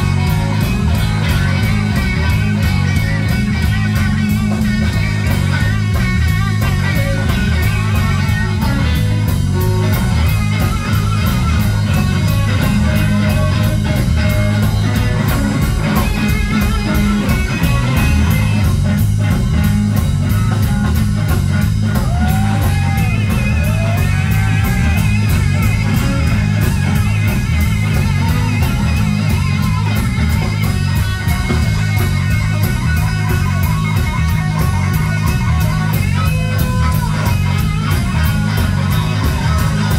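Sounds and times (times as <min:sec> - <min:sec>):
bent electric guitar notes: 0:00.0 - 0:39.9
live blues rock band: 0:00.0 - 0:39.9.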